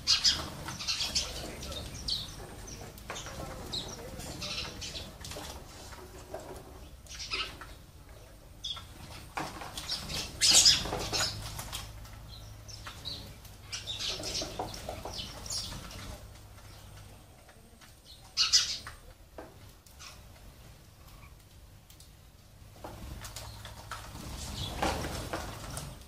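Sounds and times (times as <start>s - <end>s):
birds' wings fluttering: 0.0s - 26.0s.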